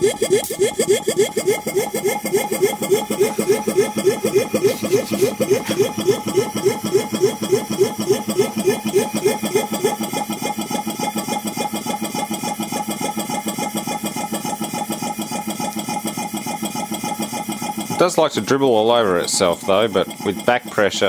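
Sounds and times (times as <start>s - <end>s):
compressor pumping pulse: 0.0s - 21.0s.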